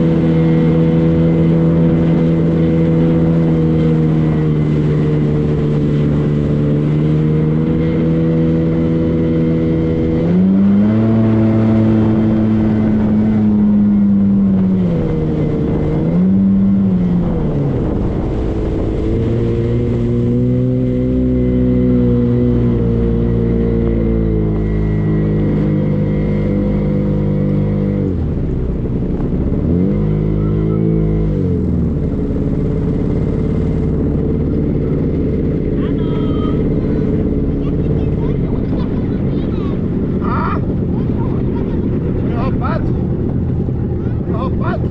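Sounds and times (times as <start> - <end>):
motorboat engine running: 0.0 - 44.9.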